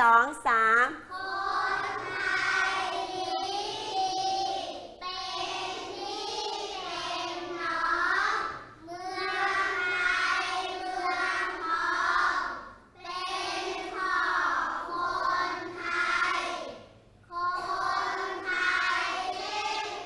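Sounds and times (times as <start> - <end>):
children chanting verse in unison: 1.0 - 20.0.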